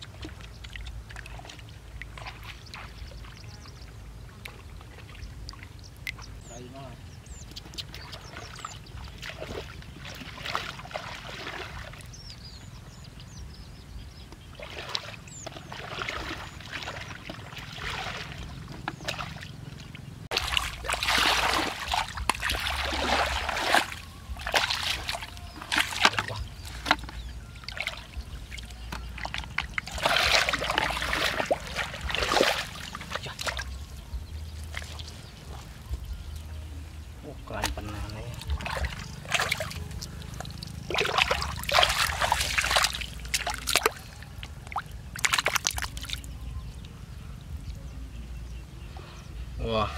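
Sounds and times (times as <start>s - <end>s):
muddy water splashing: 0.0s - 49.9s.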